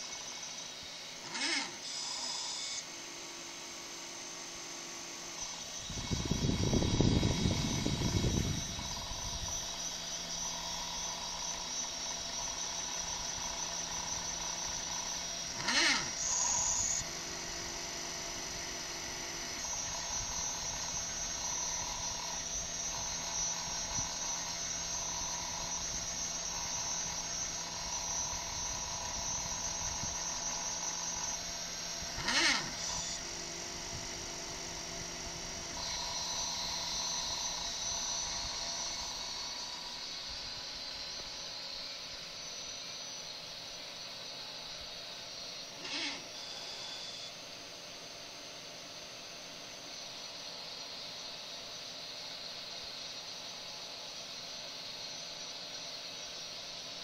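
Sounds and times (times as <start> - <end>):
stepper motors whining: 0.0 - 57.0.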